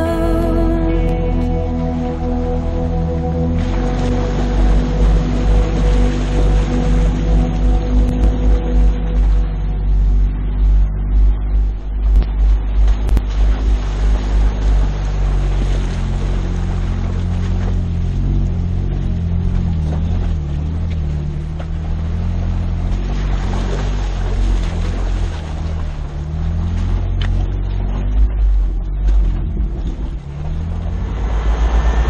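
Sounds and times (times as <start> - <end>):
car engine running slowly: 0.0 - 32.0.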